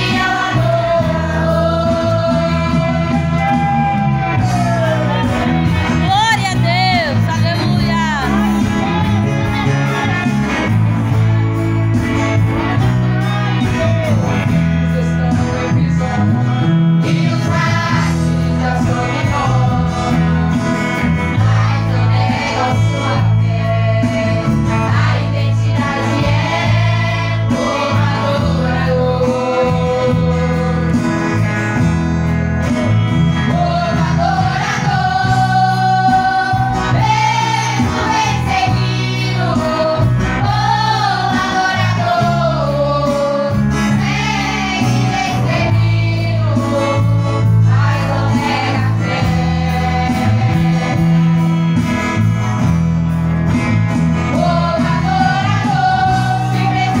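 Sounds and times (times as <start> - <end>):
women singing gospel song: 0.0 - 10.3, 11.1 - 31.3, 33.4 - 51.9, 54.2 - 57.0
heavy bass line: 0.0 - 57.0
keyboard and guitars: 0.0 - 57.0.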